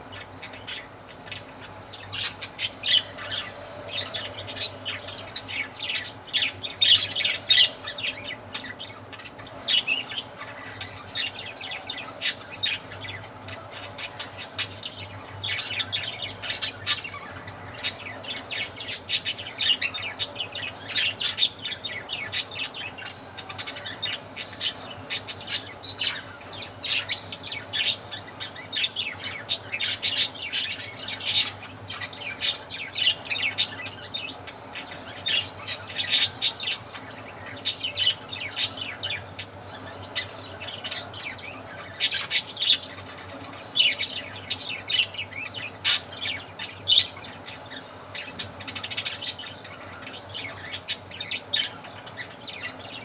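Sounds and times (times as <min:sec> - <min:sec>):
budgerigars chattering: 0:00.0 - 0:53.0.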